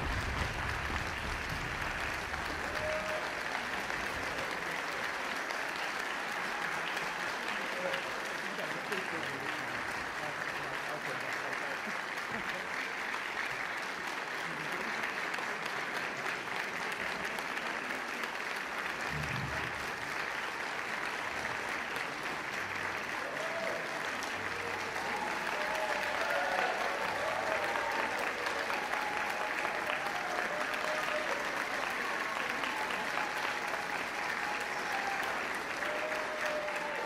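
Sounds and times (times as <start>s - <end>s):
audience applauding: 0.0s - 37.0s
people cheering: 0.0s - 37.0s.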